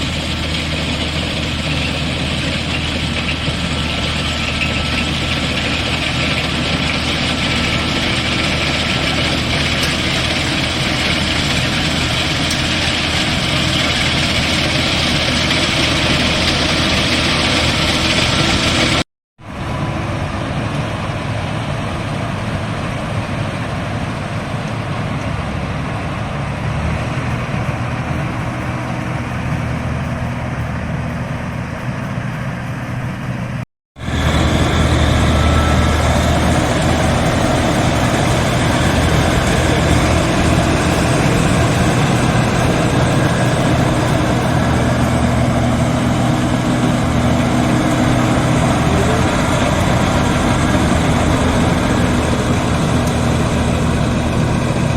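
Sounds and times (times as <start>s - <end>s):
combine harvester engine humming: 0.0s - 54.9s.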